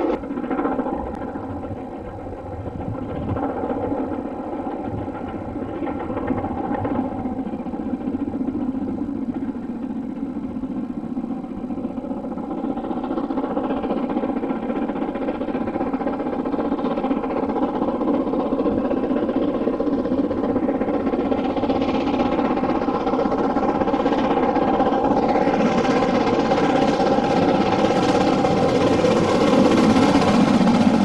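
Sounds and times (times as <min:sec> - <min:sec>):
railway locomotive engine running: 0:00.0 - 0:31.0.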